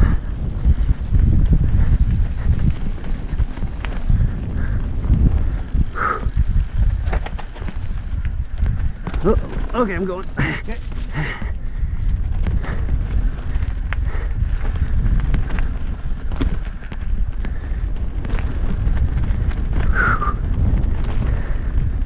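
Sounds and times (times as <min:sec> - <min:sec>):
bike knocks and rattles: 0:00.0 - 0:22.0
tyres on dirt: 0:00.0 - 0:22.0
wind buffeting microphone: 0:00.0 - 0:22.0.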